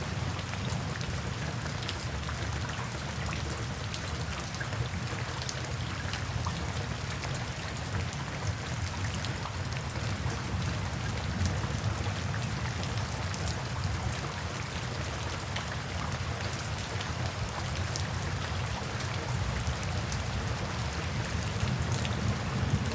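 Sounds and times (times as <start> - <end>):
rain drops ticking: 0.1 - 22.9.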